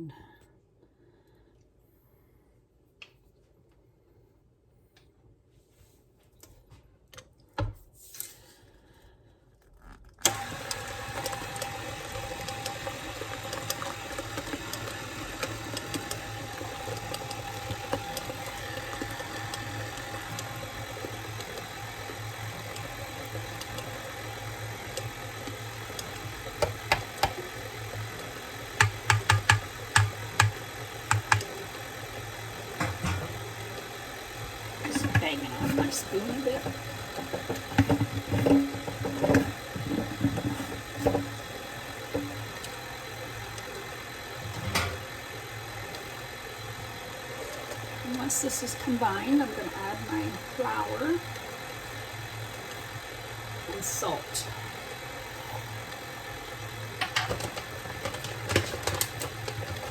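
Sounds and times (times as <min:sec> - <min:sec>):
electric mixer running: 0:10.2 - 0:59.9.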